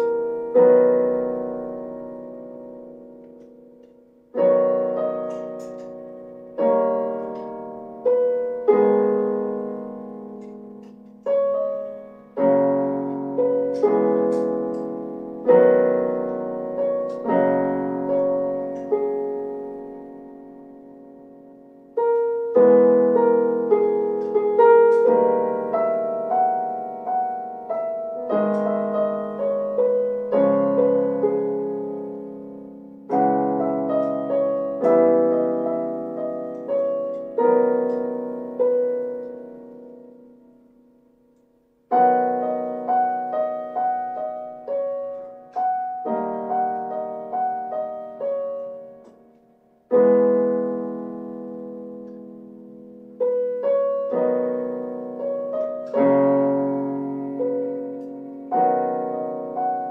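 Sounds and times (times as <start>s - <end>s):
slow solo piano piece: 0.0s - 59.9s.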